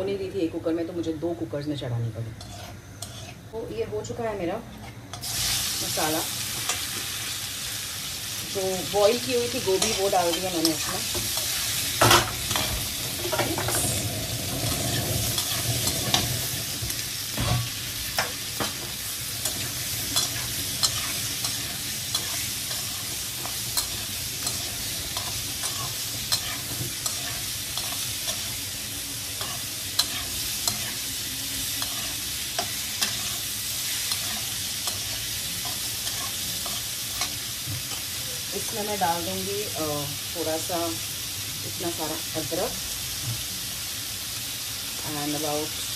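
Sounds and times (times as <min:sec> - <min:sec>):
food sizzling in oil: 0:00.0 - 0:45.9.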